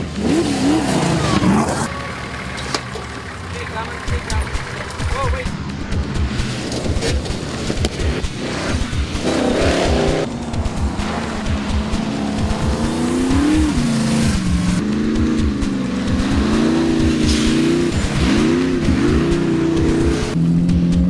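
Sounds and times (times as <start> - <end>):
race truck engine revving: 0.0 - 21.0.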